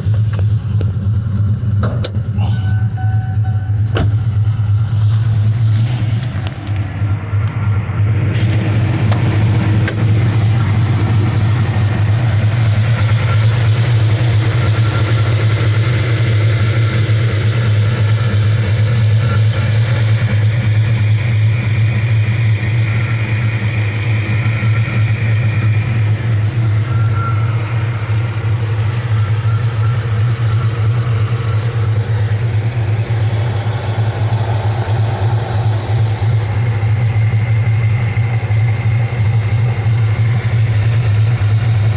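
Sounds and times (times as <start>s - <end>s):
engine idling: 0.0s - 41.9s.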